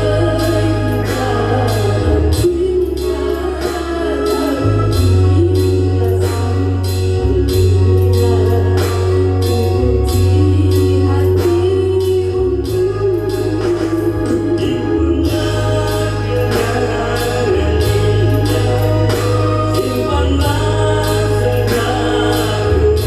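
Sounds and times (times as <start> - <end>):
heavy bass line: 0.0 - 23.0
person singing: 0.0 - 23.0
steady drum beat: 0.0 - 23.0.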